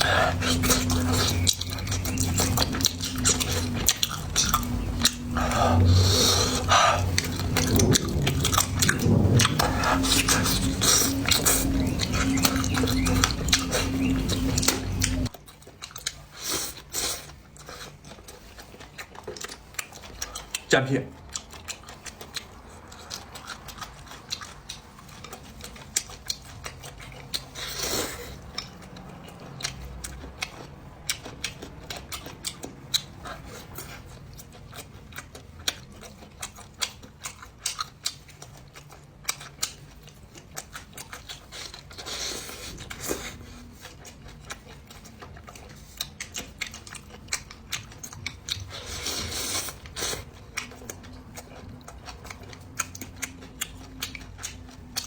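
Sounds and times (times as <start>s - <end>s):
chewing and biting: 0.0s - 55.0s.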